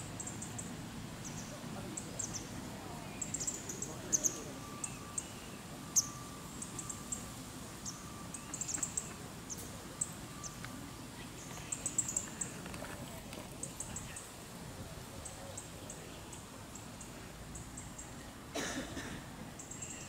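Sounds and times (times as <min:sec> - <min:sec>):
low outdoor background hum: 0:00.0 - 0:20.0
small birds chirping: 0:00.1 - 0:14.4, 0:15.2 - 0:18.4, 0:19.6 - 0:20.0.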